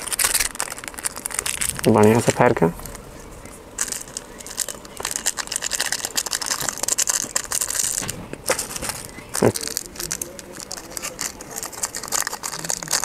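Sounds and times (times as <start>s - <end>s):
foil sachets crinkling and tearing: 0.0s - 13.0s.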